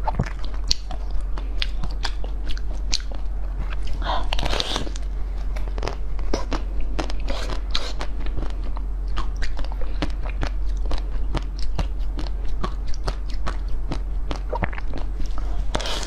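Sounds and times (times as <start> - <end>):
crisp crunching chewing: 0.0 - 16.0
low steady hum: 0.0 - 16.0.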